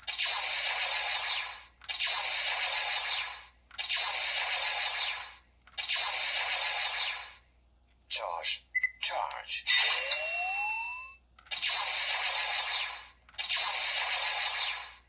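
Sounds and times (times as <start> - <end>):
toy blaster electronic firing sound: 0.0 - 7.4, 9.7 - 15.0.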